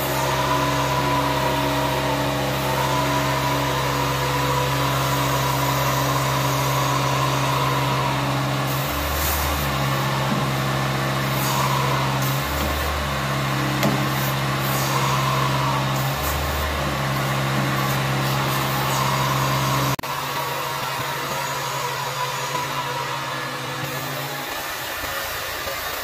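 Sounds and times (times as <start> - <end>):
carpet cleaning machine humming: 0.0 - 26.0.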